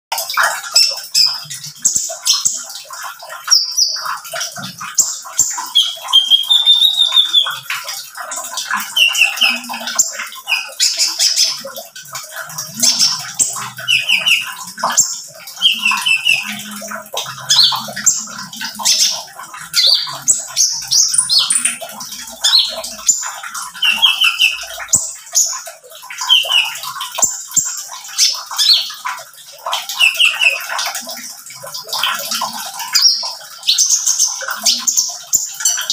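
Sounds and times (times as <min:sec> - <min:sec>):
bird singing high chirps and trills: 0:00.4 - 0:29.1, 0:29.7 - 0:31.2, 0:31.8 - 0:35.9.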